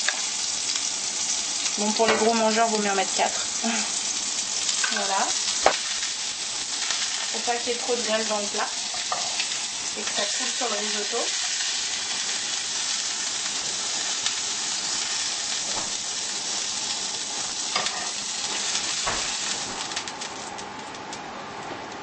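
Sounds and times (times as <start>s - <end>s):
prawns sizzling in a frying pan: 0.0s - 21.2s.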